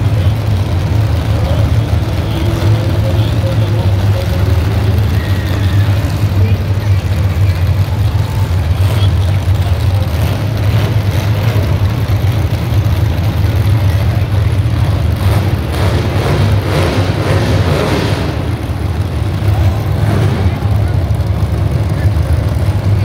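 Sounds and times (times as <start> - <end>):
car engines rumbling: 0.0 - 23.0.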